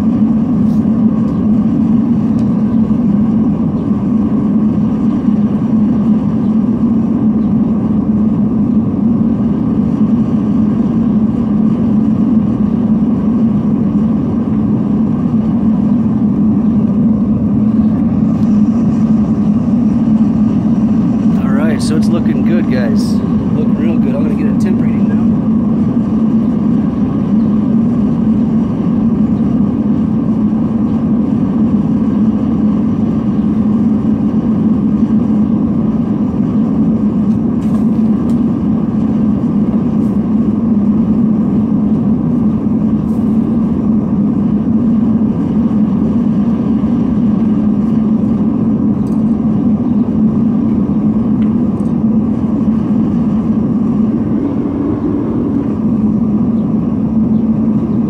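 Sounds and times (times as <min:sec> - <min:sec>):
furnace burner roaring: 0:00.0 - 0:58.0.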